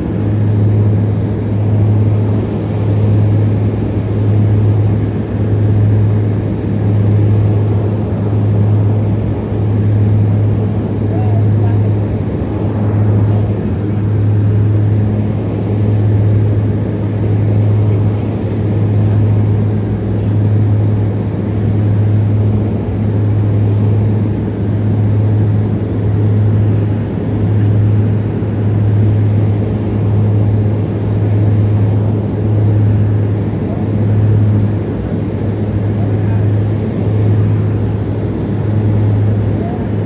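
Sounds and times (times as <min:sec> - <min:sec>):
propeller drone: 0:00.0 - 0:40.0.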